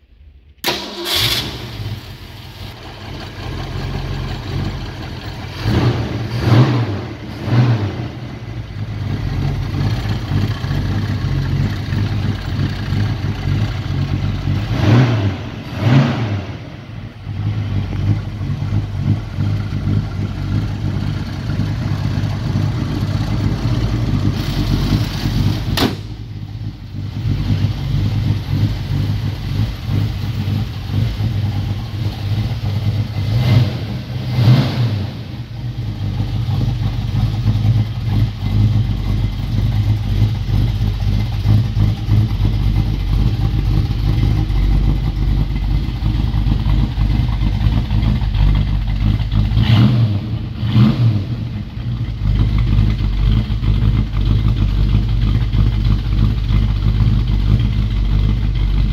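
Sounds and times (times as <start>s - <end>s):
car engine idling and revving: 0.0s - 58.9s.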